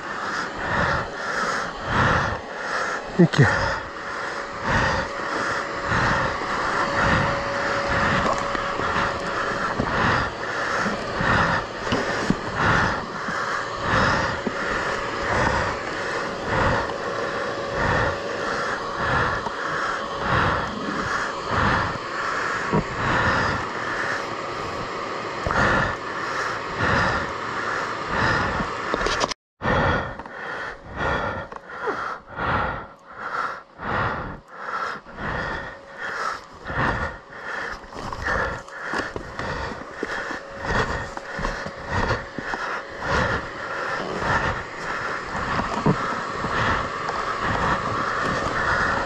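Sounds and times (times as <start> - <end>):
person breathing hard: 0.0 - 49.0.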